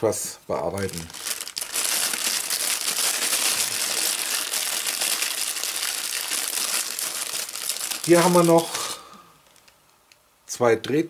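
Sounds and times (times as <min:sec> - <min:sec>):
plastic bag crinkling: 0:00.6 - 0:09.9.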